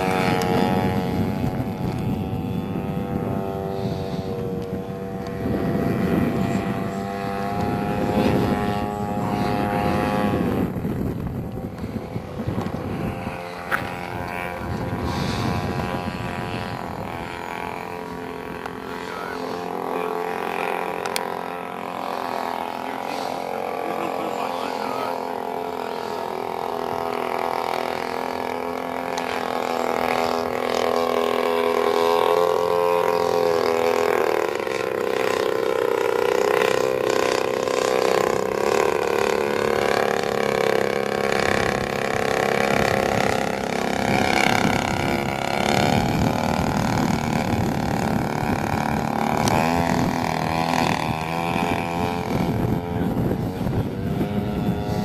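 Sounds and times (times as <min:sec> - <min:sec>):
model plane engine and propeller: 0:00.0 - 0:55.0
wind rumble on microphone: 0:00.0 - 0:55.0.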